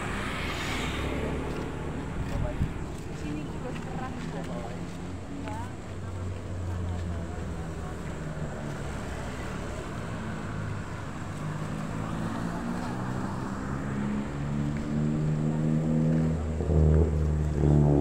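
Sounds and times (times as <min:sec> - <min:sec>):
passing cars: 0:00.0 - 0:18.0
vehicle engine humming: 0:00.0 - 0:18.0.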